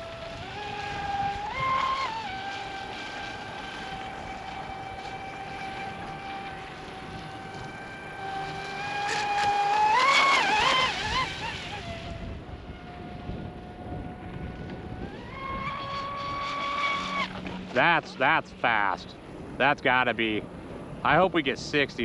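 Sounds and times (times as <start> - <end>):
rc boat motor whining: 0.0 - 21.3.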